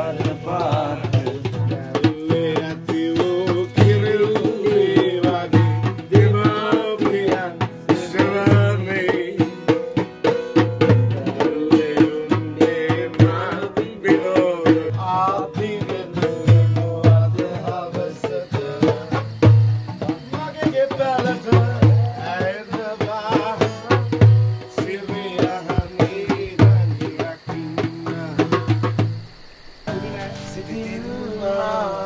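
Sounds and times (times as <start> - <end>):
person singing: 0.0 - 9.8, 11.0 - 19.4, 20.0 - 28.8, 29.9 - 32.0
fast hand drum strokes: 0.0 - 32.0.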